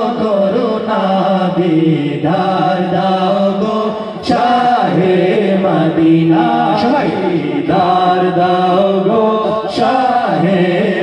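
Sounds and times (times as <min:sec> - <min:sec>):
men singing through loudspeakers: 0:00.0 - 0:11.0.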